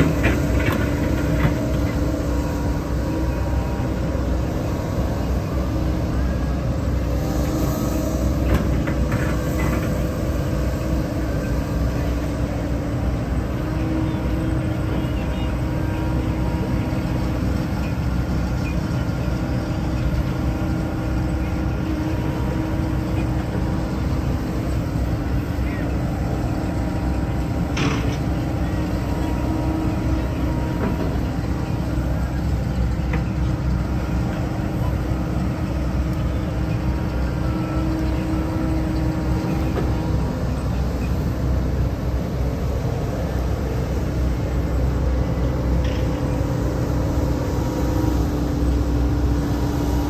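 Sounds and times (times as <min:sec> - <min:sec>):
excavator engine and hydraulics: 0:00.0 - 0:50.0.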